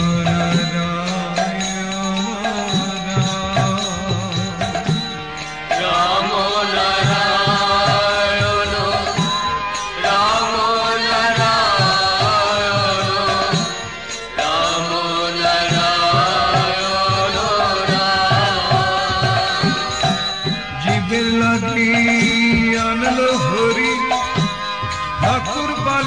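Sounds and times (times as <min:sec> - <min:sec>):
wavering melody: 0:00.0 - 0:26.0.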